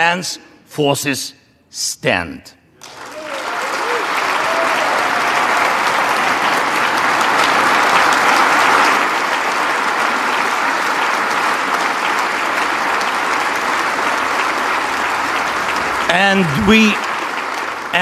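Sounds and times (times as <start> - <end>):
large audience applauding: 2.8 - 18.0.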